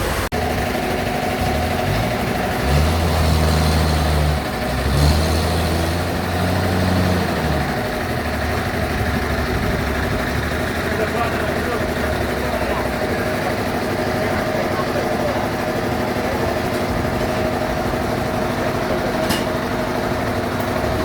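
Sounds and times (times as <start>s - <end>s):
band saw machinery running: 0.0s - 21.0s.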